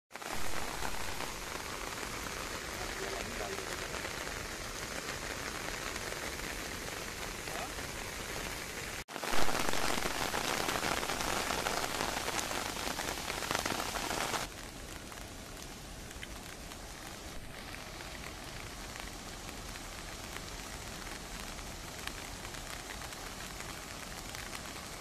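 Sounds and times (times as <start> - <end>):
rain falling on a lake: 0.1 - 25.0.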